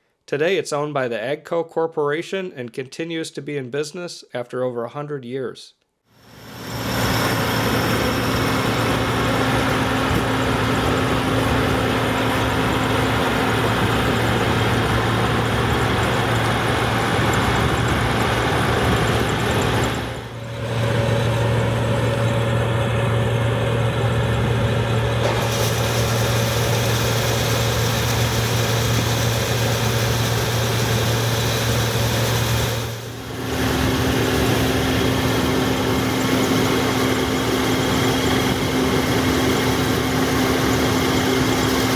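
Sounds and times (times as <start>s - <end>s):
combine harvester engine humming: 6.4s - 41.9s.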